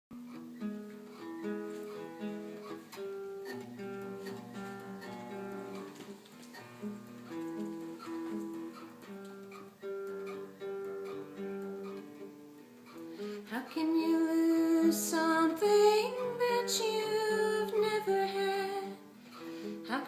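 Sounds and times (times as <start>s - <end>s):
acoustic guitar instrumental: 0.1s - 20.0s.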